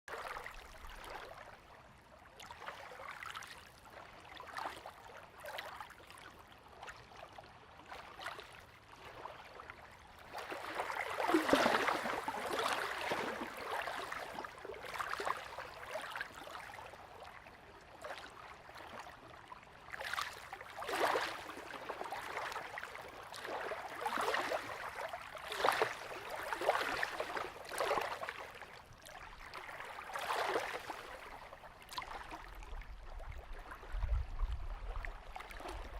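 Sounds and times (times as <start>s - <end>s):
small waves lapping at shore: 0.1s - 35.9s.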